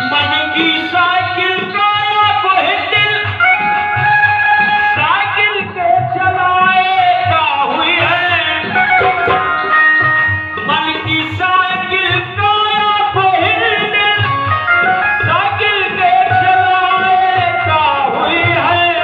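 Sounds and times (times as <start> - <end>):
hand drum rhythm: 0.6 - 19.0.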